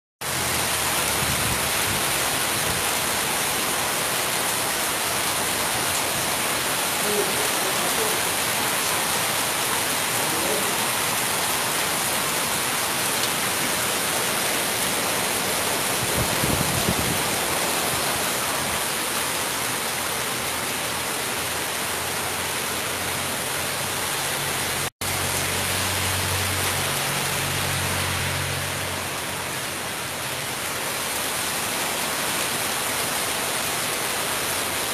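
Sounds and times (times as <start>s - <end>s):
heavy rain on pavement: 0.2s - 34.9s.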